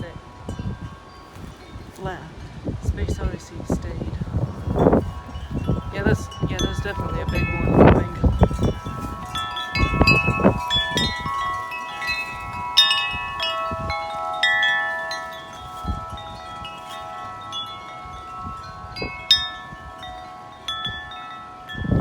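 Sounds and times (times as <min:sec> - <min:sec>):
tubular wind chimes ringing: 0:00.0 - 0:22.0
wind buffeting microphone: 0:00.0 - 0:22.0.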